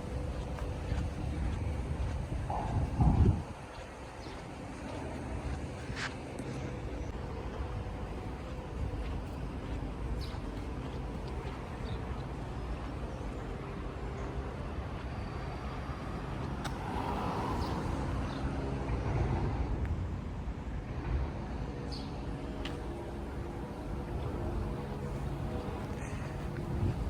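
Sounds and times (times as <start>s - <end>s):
low rumble of road traffic: 0.0s - 27.0s.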